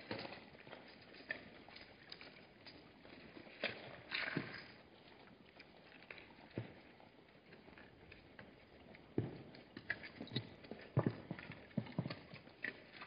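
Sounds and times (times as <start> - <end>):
zebra hooves clopping on hard ground: 0.0 - 13.0.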